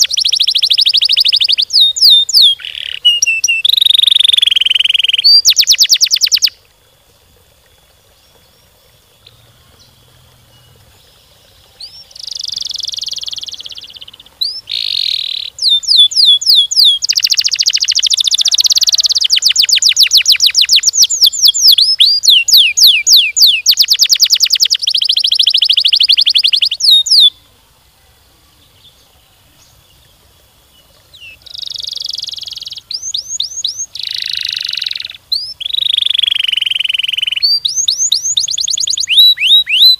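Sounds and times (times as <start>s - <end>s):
canary singing trills: 0.0s - 6.6s, 9.2s - 27.4s, 31.1s - 39.9s.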